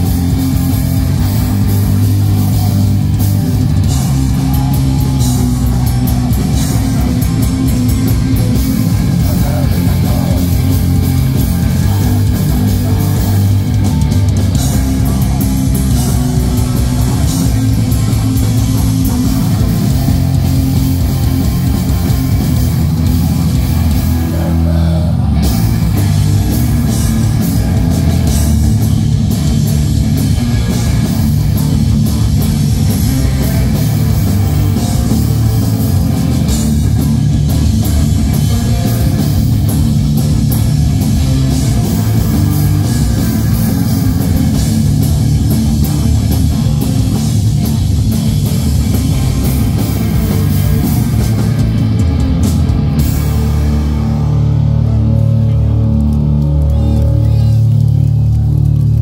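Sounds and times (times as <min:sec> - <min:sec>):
bass guitar: 0:00.0 - 0:59.0
distorted electric guitars: 0:00.0 - 0:59.0
drum kit: 0:00.0 - 0:59.0.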